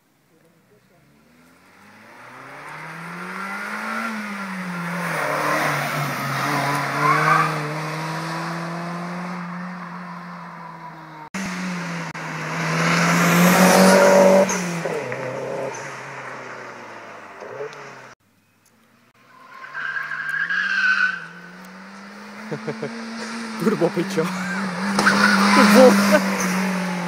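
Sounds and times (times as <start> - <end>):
car engine accelerating hard: 1.3 - 18.2, 21.2 - 27.0.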